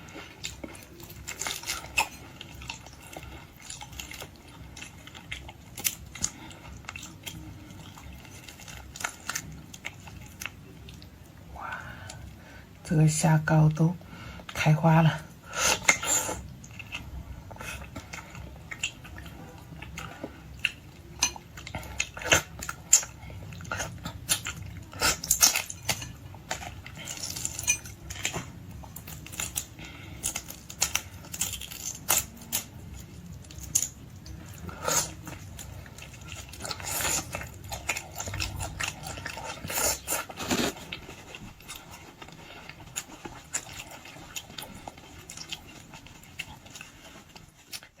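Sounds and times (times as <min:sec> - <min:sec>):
biting and chewing: 0:00.0 - 0:11.2, 0:15.7 - 0:48.0.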